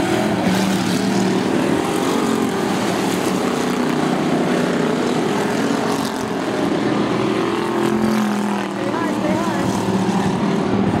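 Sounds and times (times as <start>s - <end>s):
race car engines: 0.0s - 11.0s.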